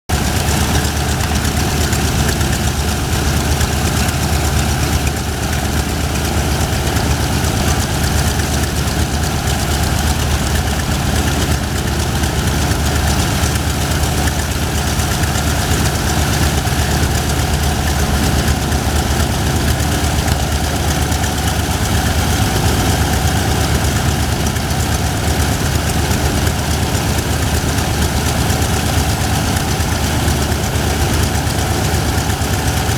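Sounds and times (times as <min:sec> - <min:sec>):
aircraft radial engine idling: 0:00.1 - 0:32.9.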